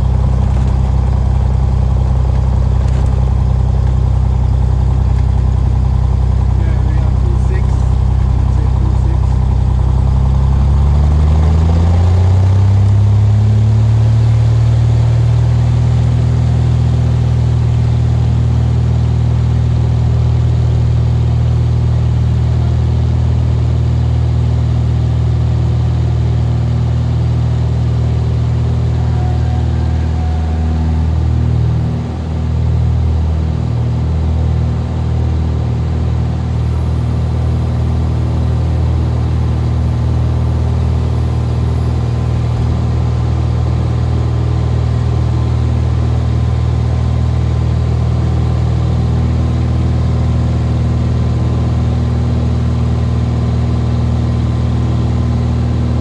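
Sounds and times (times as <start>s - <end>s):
propeller aircraft engine running: 0.0s - 56.0s.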